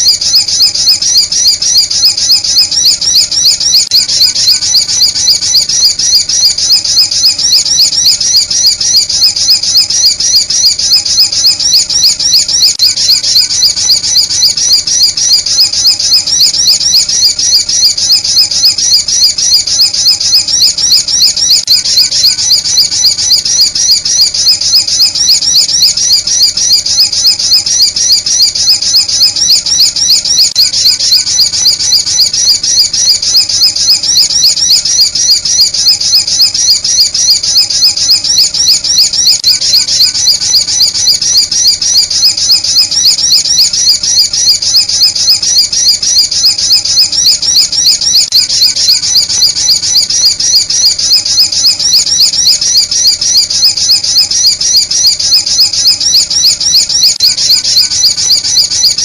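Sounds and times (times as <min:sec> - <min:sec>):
high-pitched bird chirp: 0:00.0 - 0:59.0.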